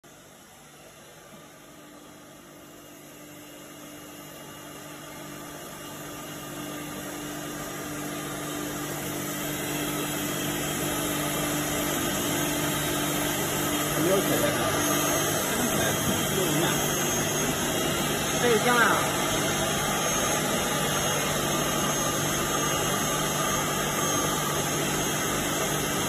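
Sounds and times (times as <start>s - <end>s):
wood router machine hum: 3.9s - 26.0s.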